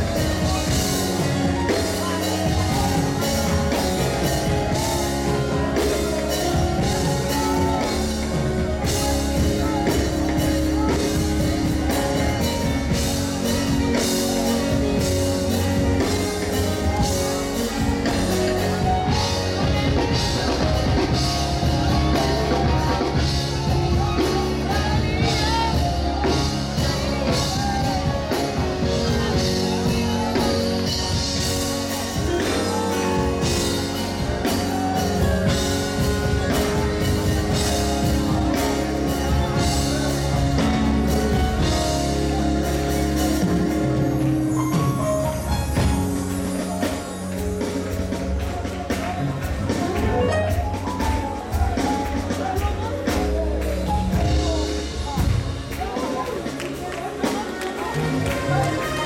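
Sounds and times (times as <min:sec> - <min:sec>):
person singing: 0:00.0 - 0:55.2
drum kit: 0:00.0 - 0:59.0
gospel band playing: 0:00.0 - 0:59.0
keyboard: 0:00.0 - 0:59.0.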